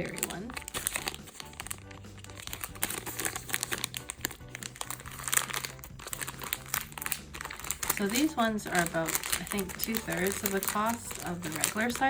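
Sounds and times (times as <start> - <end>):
plastic packaging crinkling: 0.0 - 12.0
soft background music: 0.0 - 12.0.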